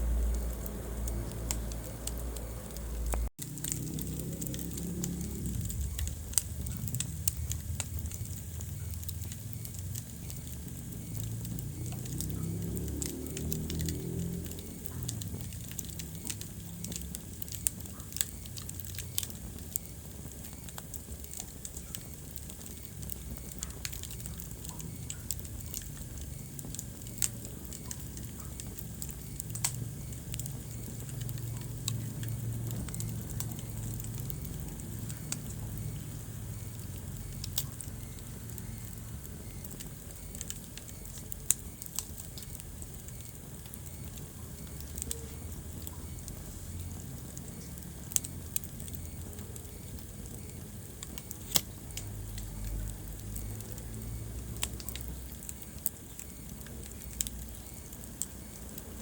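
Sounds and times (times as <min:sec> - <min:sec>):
fire crackling and popping: 0:00.0 - 0:59.0
fire rumbling: 0:00.0 - 0:59.0.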